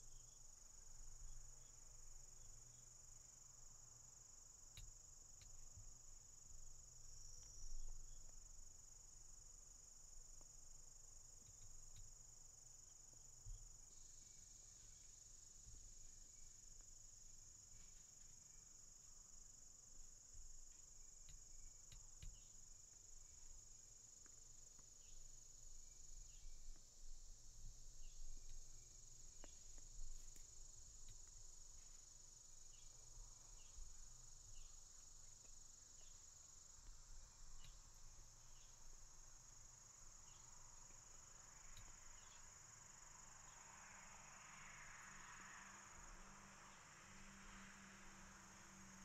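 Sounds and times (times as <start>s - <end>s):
crickets trilling: 0.0s - 49.0s
short cricket chirps: 0.0s - 49.0s.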